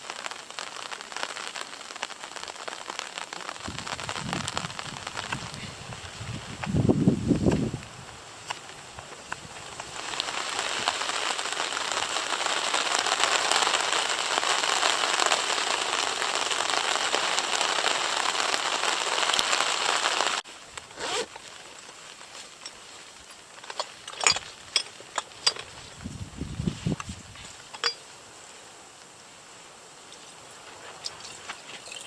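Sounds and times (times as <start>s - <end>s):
steady rain hissing: 0.0s - 32.0s.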